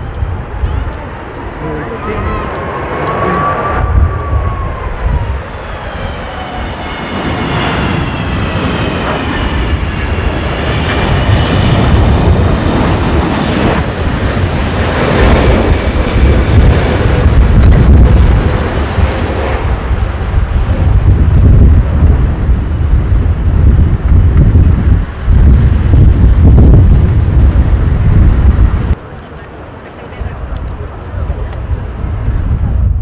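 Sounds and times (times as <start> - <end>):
jet engines rumbling and whining: 0.0 - 33.0.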